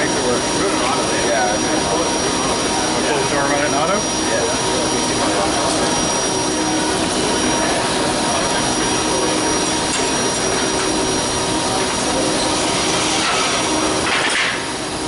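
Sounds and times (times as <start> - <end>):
loud machinery noise: 0.0 - 15.0.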